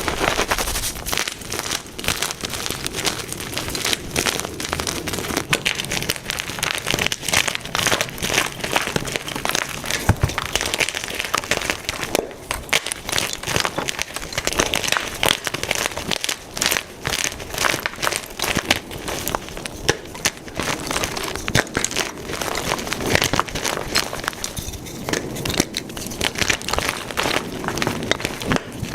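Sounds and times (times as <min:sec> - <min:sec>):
chalk being crushed: 0:00.0 - 0:28.9.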